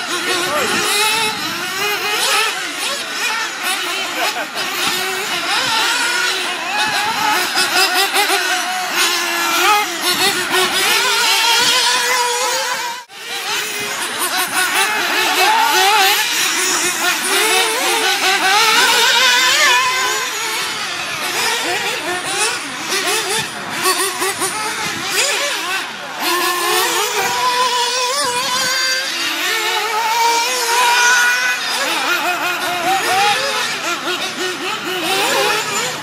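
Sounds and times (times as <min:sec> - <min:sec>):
rc buggy engines racing: 0:00.0 - 0:36.0.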